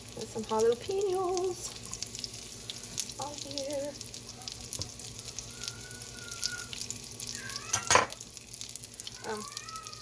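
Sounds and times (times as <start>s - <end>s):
batter sizzling in waffle maker: 0.0s - 10.0s.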